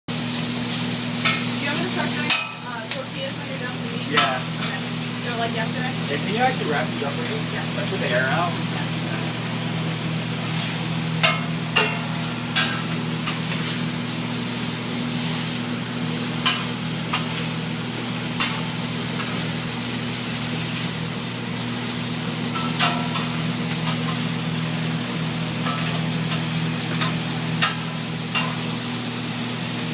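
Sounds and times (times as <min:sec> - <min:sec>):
meat sizzling: 0:00.1 - 0:29.9.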